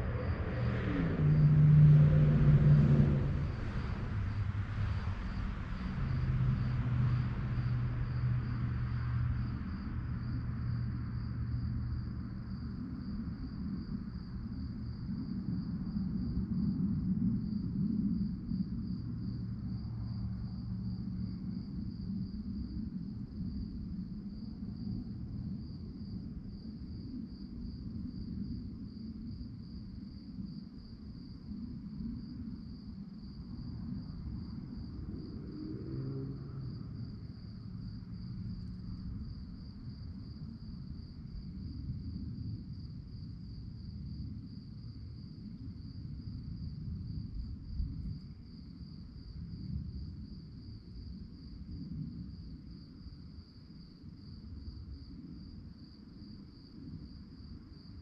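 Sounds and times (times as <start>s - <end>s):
crickets chirping: 0.0s - 58.0s
low continuous rumble: 0.0s - 58.0s.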